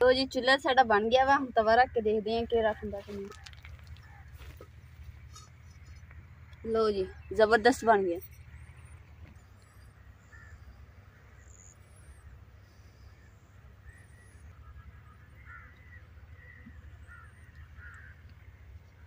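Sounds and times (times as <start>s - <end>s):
low steady rumble: 0.0s - 19.0s
birds calling: 0.6s - 19.0s.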